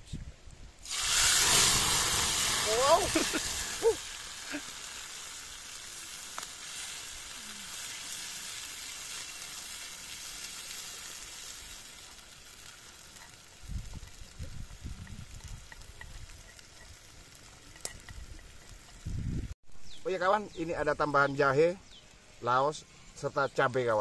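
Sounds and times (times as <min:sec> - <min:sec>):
spice paste sizzling in oil: 0:00.8 - 0:24.0.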